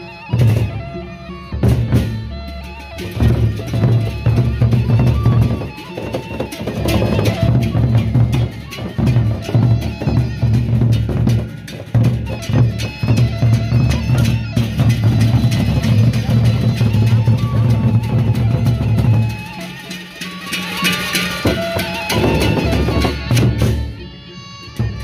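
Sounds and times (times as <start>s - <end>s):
barrel drums beaten fast: 3.0s - 24.0s.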